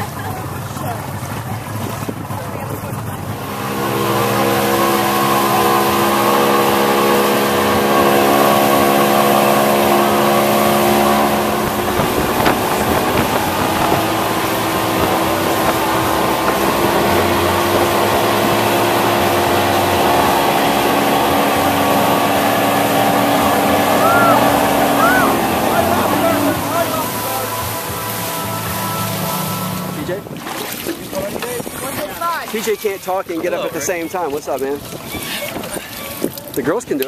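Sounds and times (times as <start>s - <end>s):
motorboat engine running: 0.0s - 37.0s
water rushing in boat wake: 0.0s - 37.0s.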